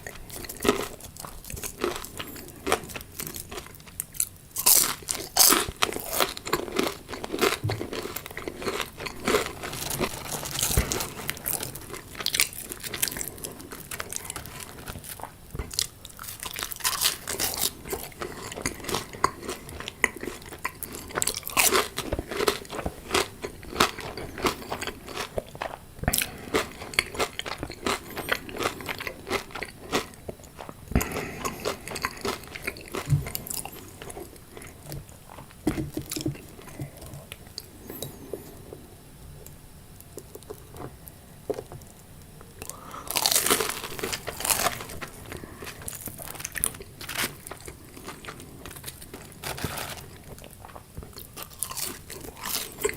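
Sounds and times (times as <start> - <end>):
crunchy food chewing: 0.0 - 52.9.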